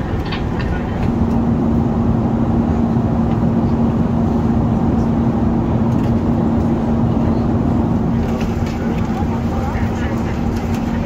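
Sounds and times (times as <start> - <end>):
airflow and engine noise: 0.0 - 11.0
constant low hum: 0.0 - 11.0.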